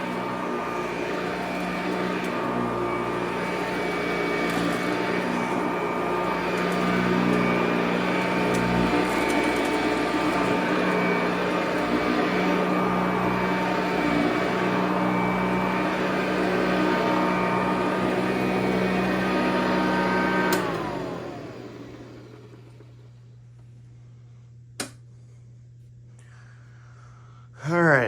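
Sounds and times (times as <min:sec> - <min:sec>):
vacuum cleaner running on carpet: 0:00.0 - 0:23.4.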